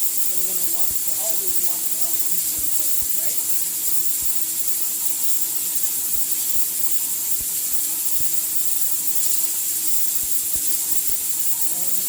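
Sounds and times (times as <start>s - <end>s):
pressure cooker hissing steam: 0.0s - 12.0s.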